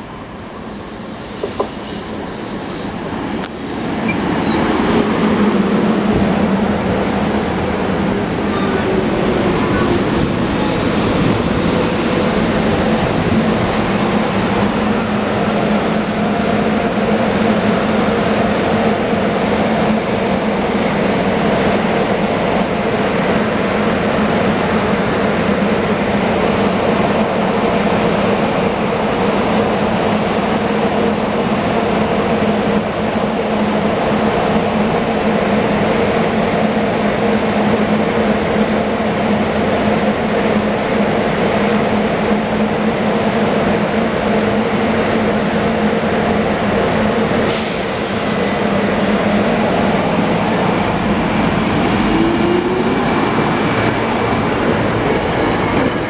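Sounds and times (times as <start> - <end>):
railcar equipment rushing and humming: 0.0 - 56.0.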